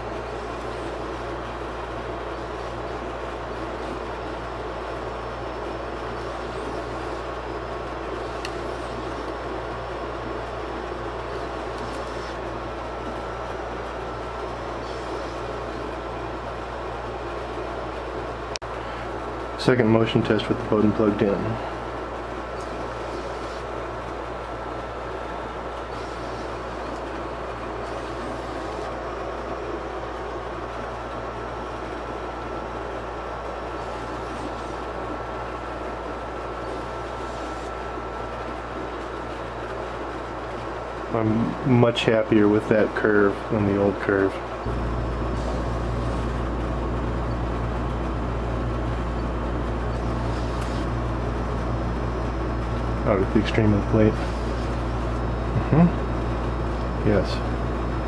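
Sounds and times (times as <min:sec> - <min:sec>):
steady whir with high whine: 0:00.0 - 0:58.0
stepper motors and fans humming: 0:00.0 - 0:58.0.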